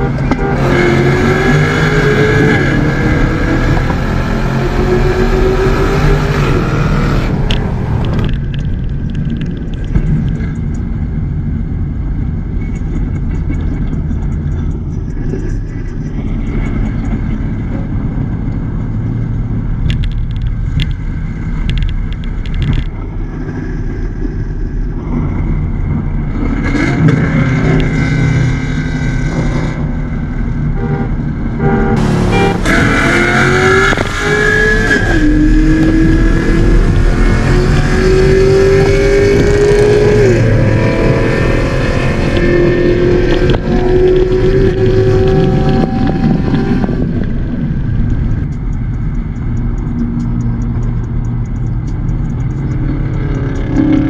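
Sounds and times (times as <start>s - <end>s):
car engine and exhaust revving: 0.0s - 54.0s.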